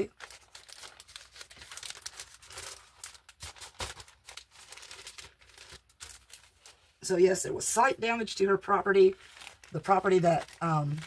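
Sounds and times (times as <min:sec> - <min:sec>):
plastic packaging crinkling: 0:00.0 - 0:07.0, 0:09.1 - 0:11.0.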